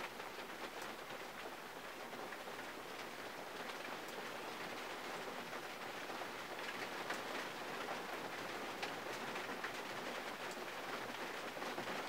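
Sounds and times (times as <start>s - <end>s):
rain pattering on car: 0.0s - 12.0s.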